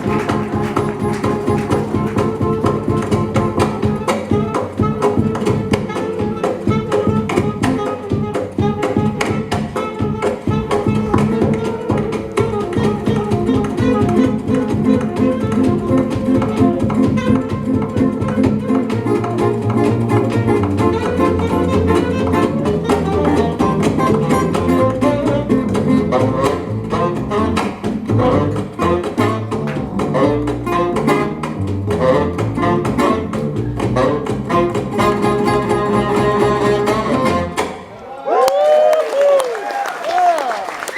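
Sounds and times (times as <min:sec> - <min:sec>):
acoustic guitars strumming: 0:00.0 - 0:07.3, 0:10.4 - 0:37.9
plucked guitar melody: 0:00.0 - 0:37.9
double bass walking notes: 0:00.0 - 0:38.0.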